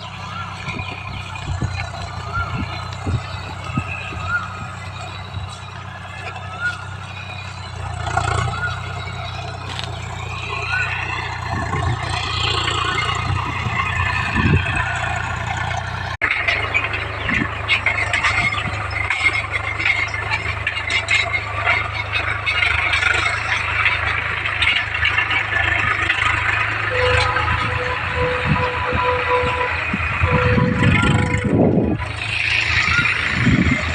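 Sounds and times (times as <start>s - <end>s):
dense rattling clatter: 0.0s - 33.9s
tractor engine running: 0.0s - 33.9s.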